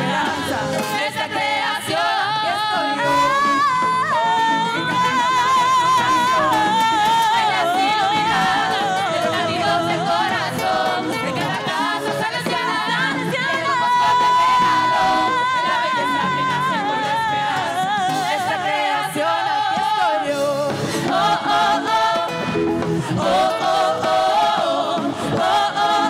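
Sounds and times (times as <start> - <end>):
live band playing tropical rock: 0.0 - 26.0
women singing together: 0.0 - 26.0.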